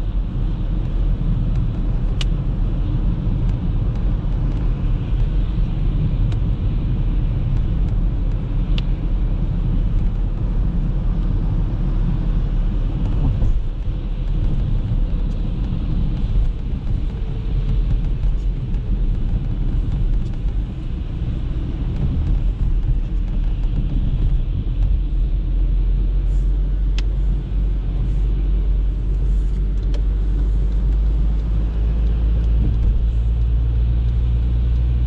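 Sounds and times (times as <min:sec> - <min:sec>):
car driving with road rumble: 0:00.0 - 0:35.0.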